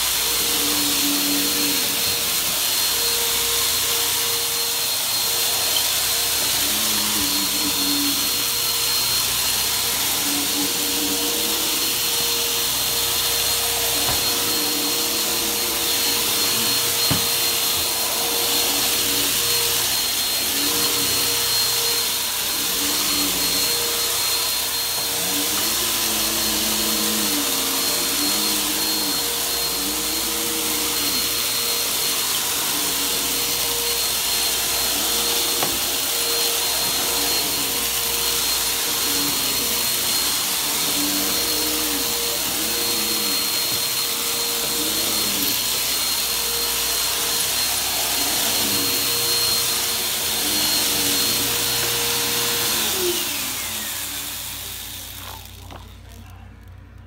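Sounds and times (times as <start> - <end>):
vacuum cleaner running: 0.0 - 57.0
vacuum motor winding down: 0.0 - 57.0.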